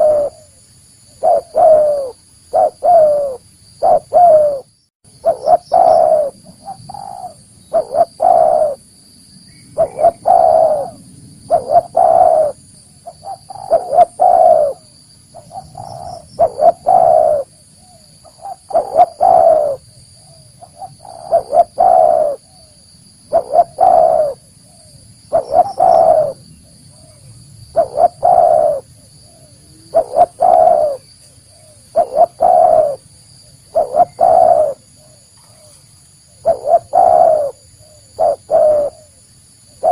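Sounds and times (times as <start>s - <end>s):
dove cooing: 0.0s - 8.9s, 9.8s - 39.2s.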